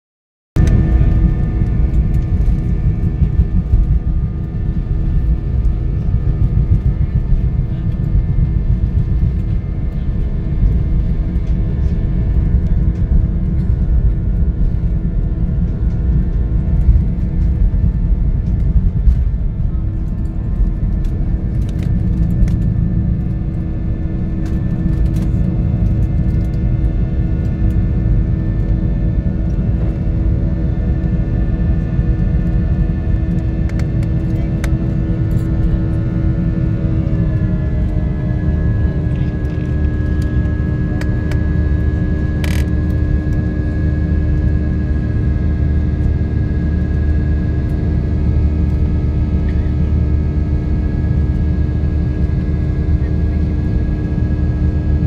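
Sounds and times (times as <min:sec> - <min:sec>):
engine and airflow rumble: 0:00.6 - 0:55.0
steady humming tones: 0:00.6 - 0:55.0.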